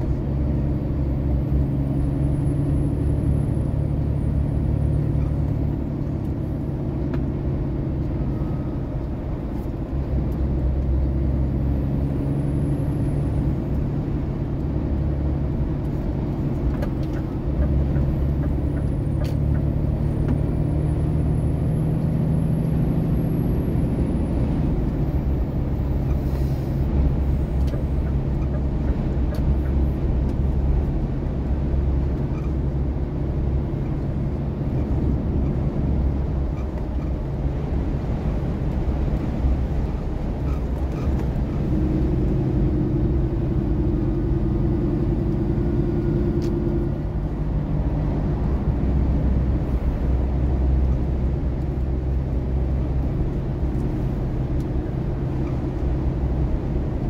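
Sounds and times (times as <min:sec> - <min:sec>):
low engine drone: 0:00.0 - 0:57.0
road noise: 0:00.0 - 0:57.0.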